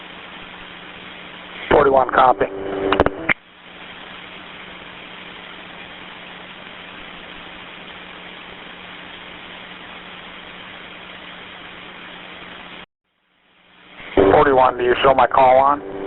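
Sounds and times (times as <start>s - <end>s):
radio channel hiss: 0.0s - 16.0s.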